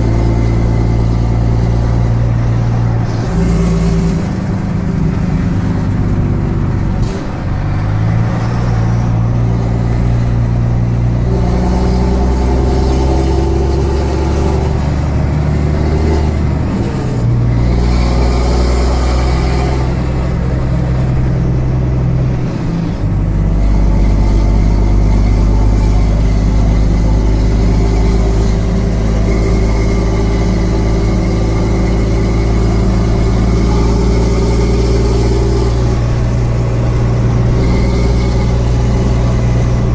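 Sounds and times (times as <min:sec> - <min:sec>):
lorry diesel engine drone: 0:00.0 - 0:39.9.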